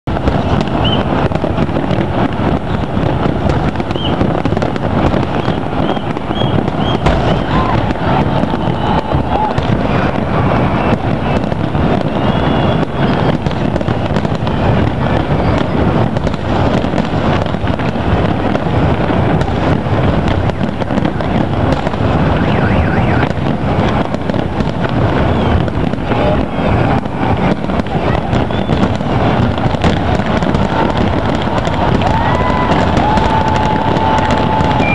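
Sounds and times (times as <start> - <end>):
fireworks bangs and crackle: 0.0 - 34.9.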